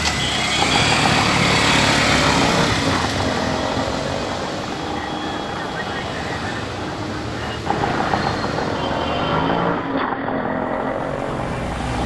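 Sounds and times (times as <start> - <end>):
steady hum of traffic: 0.0 - 12.0
vehicle passing: 0.0 - 12.0.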